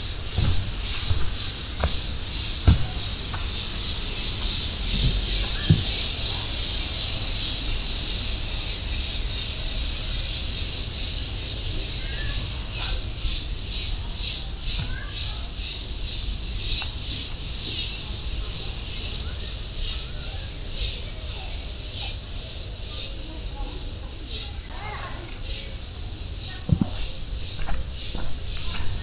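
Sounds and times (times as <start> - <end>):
pulsing insect chorus: 0.0 - 29.0.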